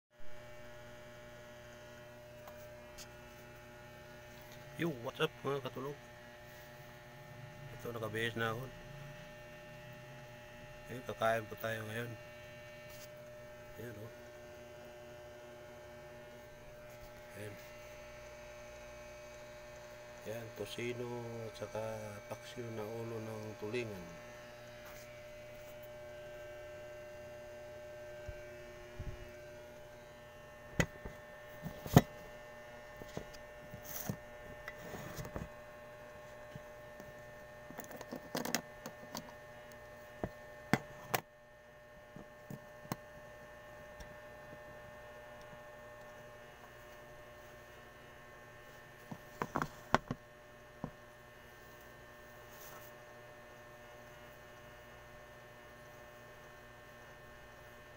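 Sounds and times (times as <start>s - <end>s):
electrical hum: 0.2s - 57.9s.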